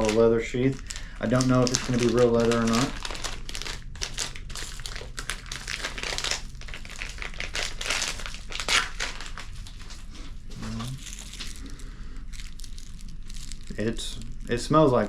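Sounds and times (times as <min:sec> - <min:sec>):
packaging crinkling and rustling: 0:00.0 - 0:14.5.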